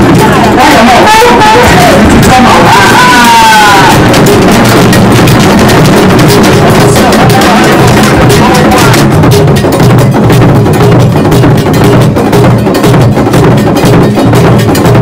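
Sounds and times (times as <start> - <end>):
hand drums ensemble: 0.0 - 15.0.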